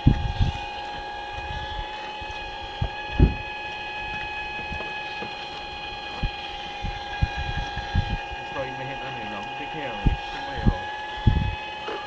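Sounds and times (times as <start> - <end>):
hydraulic pump high whine: 0.0 - 12.0.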